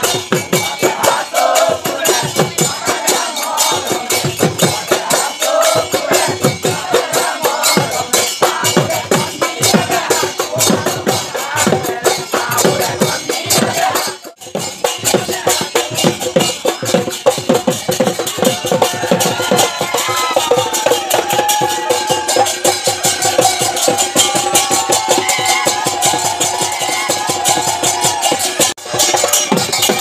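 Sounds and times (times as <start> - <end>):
drums beaten in fast rhythm: 0.0 - 30.0.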